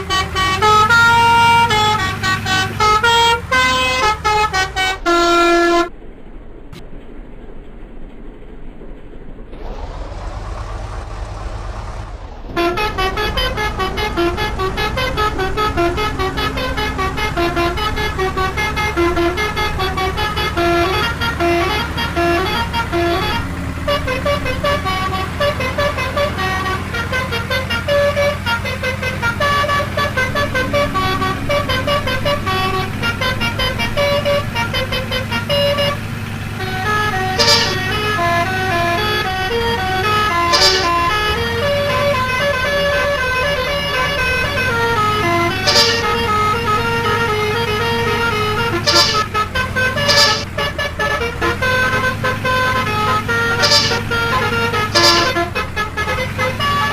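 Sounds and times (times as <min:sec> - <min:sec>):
multi-tone bus horn melody: 0:00.0 - 0:05.9, 0:12.5 - 0:56.9
bus engine idling: 0:00.0 - 0:07.1, 0:08.7 - 0:56.9.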